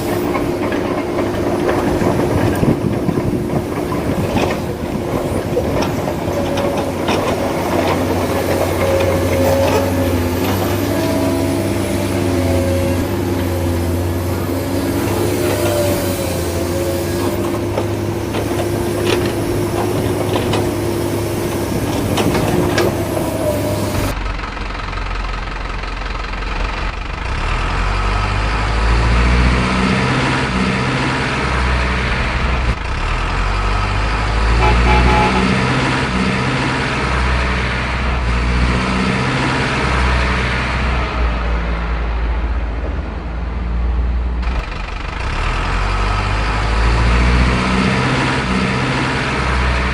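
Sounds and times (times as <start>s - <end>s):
deep engine rumble: 0.0s - 49.9s
heavy diesel engines running: 0.0s - 49.9s.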